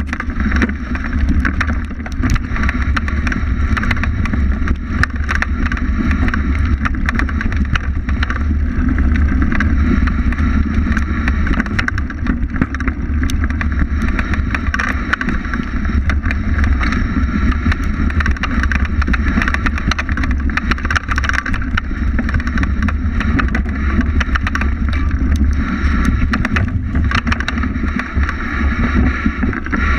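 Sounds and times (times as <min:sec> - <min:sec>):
bike rattling clicks: 0:00.0 - 0:29.9
wind buffeting rumble: 0:00.0 - 0:29.9.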